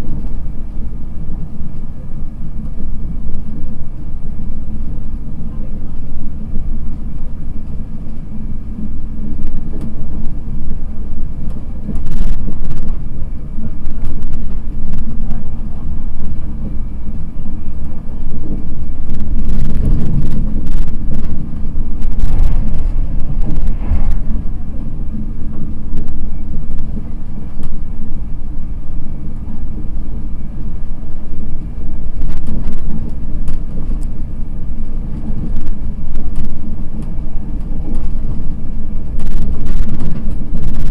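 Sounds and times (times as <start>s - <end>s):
train coach rumbling at speed: 0.0s - 40.9s.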